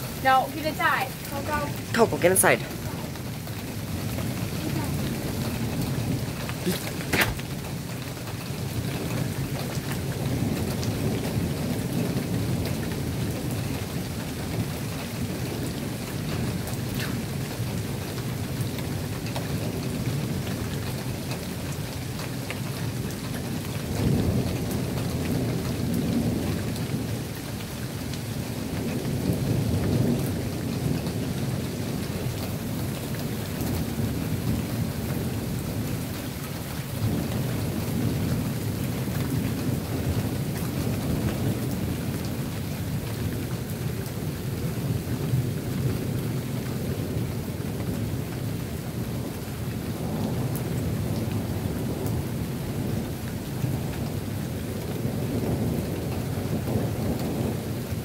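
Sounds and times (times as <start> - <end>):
steady rain falling: 0.0 - 58.0
thunder rumbling: 0.0 - 58.0.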